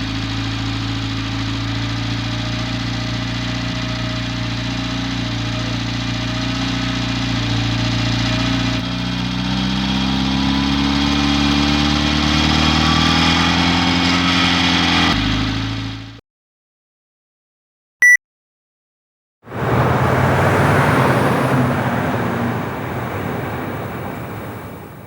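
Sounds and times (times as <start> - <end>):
truck engine revving: 0.0 - 16.2, 19.5 - 25.0.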